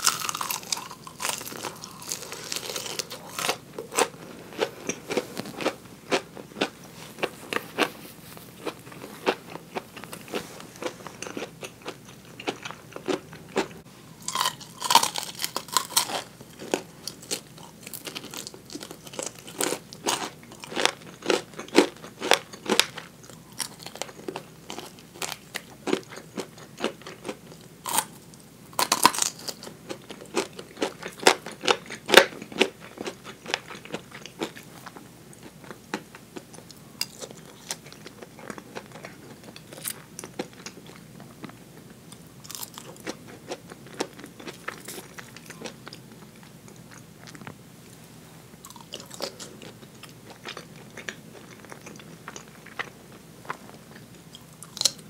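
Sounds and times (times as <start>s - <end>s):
crunching fried chicken: 0.0s - 41.6s, 42.4s - 47.5s, 48.6s - 55.0s.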